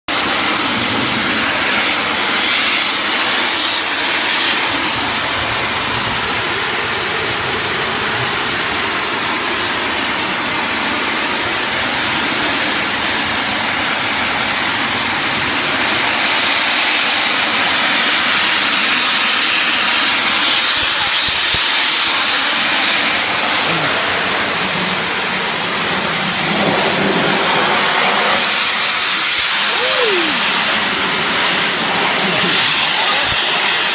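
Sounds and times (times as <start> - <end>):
pump motor running: 0.1 - 33.9
water jet hissing on concrete: 0.1 - 33.9.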